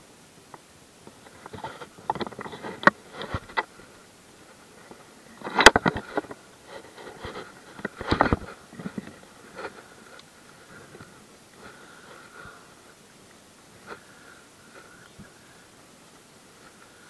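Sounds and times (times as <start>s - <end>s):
fishing gear rustling and clicking: 1.1s - 17.0s.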